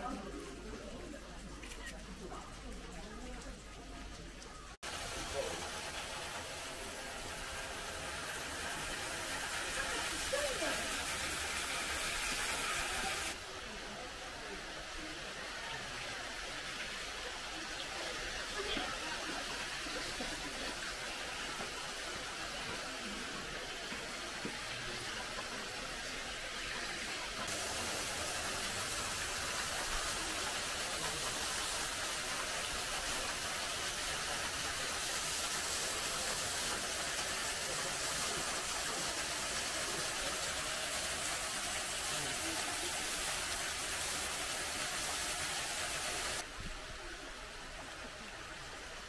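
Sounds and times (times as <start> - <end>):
water cascading over rocks: 0.0 - 49.0.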